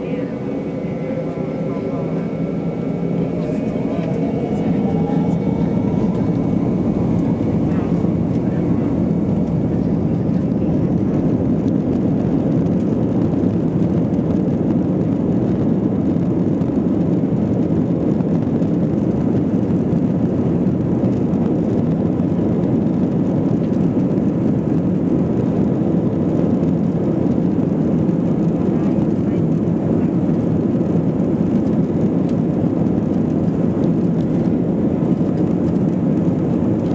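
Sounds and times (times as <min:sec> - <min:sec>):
cabin air noise: 0:00.0 - 0:28.2, 0:29.9 - 0:36.9
jet engine rumble: 0:00.0 - 0:36.9.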